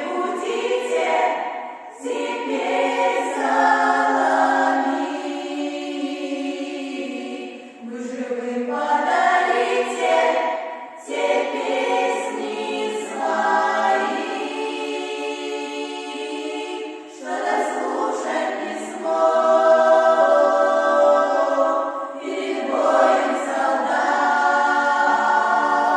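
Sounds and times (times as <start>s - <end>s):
choir singing: 0.0s - 25.9s.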